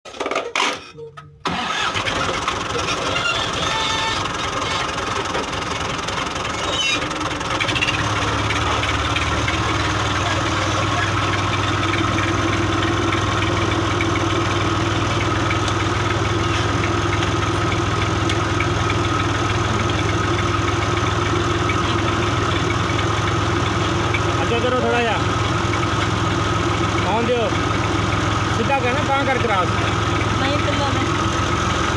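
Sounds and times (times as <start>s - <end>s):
tractor diesel engine running: 1.4s - 31.9s.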